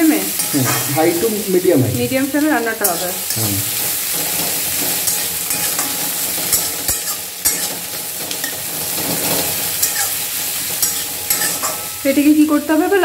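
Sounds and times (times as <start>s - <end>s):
metal spatula scraping wok: 0.0s - 12.3s
onions sizzling in oil: 0.0s - 13.0s.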